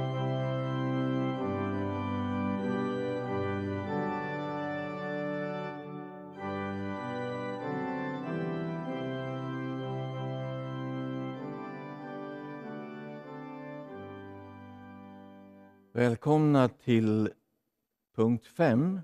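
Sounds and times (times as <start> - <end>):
organ playing slow chords: 0.0 - 17.2.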